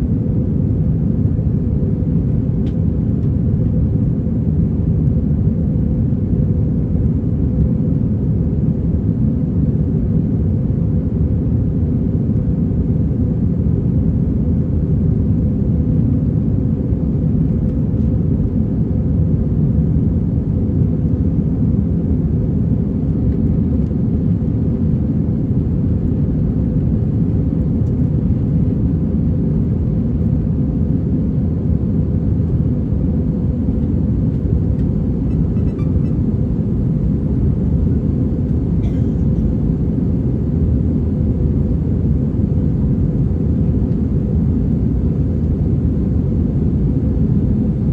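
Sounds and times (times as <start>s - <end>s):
airplane cabin engine rumble: 0.0s - 47.9s.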